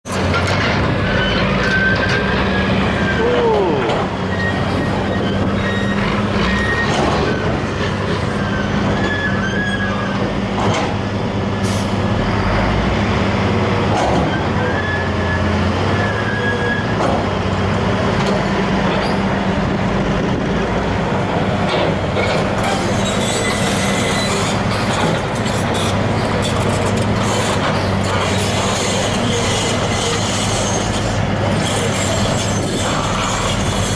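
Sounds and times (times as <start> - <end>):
diesel truck engines running: 0.1 - 33.9.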